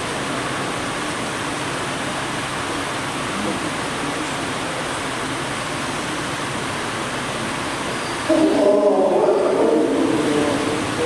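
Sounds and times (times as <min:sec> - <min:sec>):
electric fans rushing: 0:00.0 - 0:11.0.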